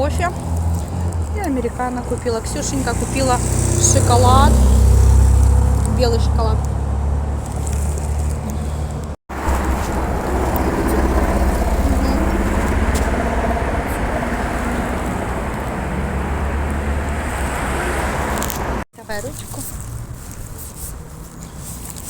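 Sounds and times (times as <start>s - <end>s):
road traffic rumble: 0.0s - 22.0s
wind: 0.0s - 22.0s.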